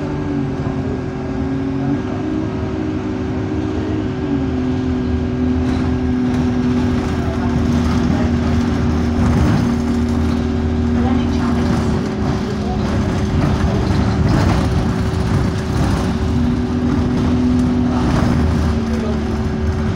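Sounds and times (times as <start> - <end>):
bus engine running: 0.0 - 19.9.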